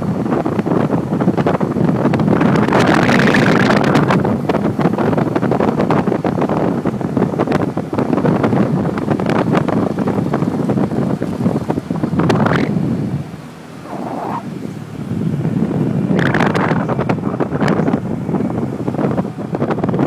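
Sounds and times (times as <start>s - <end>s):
heavy wind buffeting microphone: 0.0s - 20.0s.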